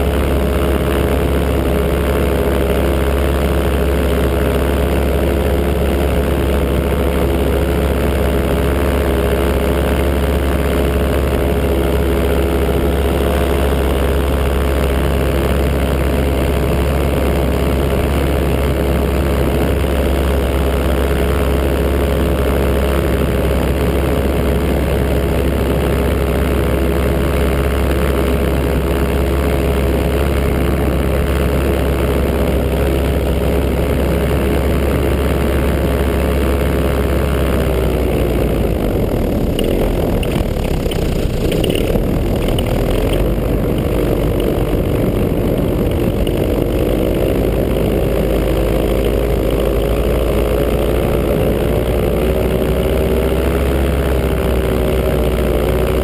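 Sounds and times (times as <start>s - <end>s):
paramotor engine and propeller: 0.0s - 56.0s.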